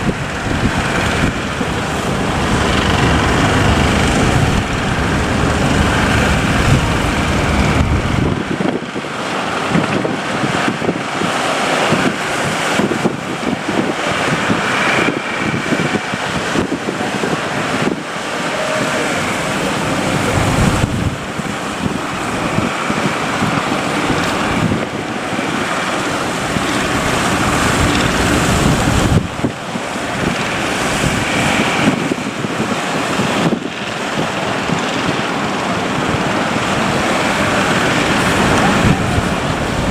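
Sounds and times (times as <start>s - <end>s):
breaking sea surf: 0.0s - 39.9s
wind buffeting microphone: 0.0s - 39.9s.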